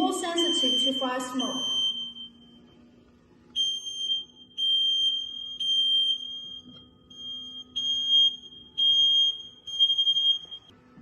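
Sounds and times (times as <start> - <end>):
smoke detector beeping: 0.0 - 2.7, 3.6 - 10.7.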